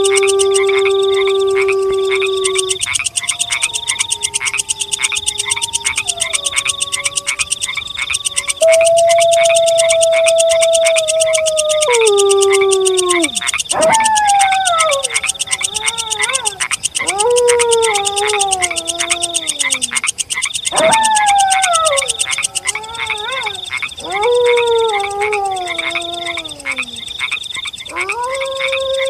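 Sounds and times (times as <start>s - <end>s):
wolf howling: 0.0s - 20.0s, 20.7s - 27.2s, 27.9s - 29.0s
high-pitched night chirping: 0.0s - 29.0s.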